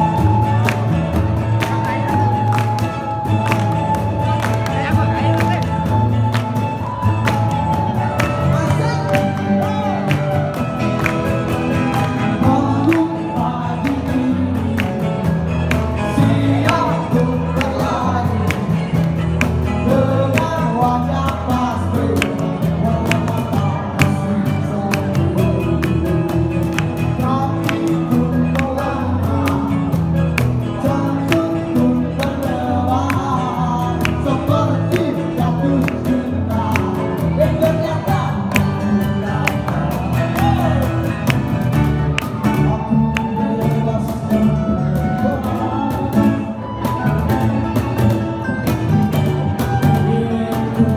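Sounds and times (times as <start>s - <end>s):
bass guitar: 0.0s - 50.9s
male singer: 0.0s - 50.9s
strummed acoustic guitars: 0.0s - 50.9s.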